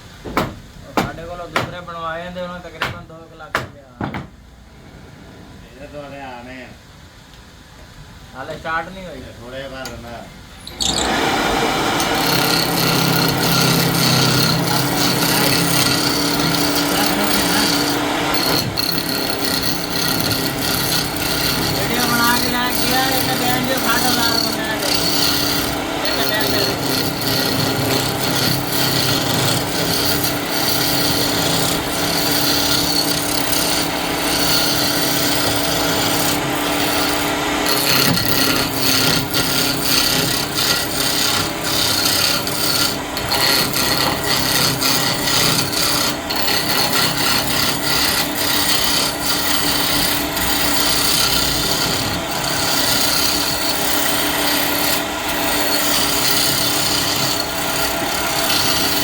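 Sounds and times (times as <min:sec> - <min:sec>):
lathe motor hum: 0:10.6 - 0:59.0
tool scraping turning wood: 0:10.6 - 0:59.0.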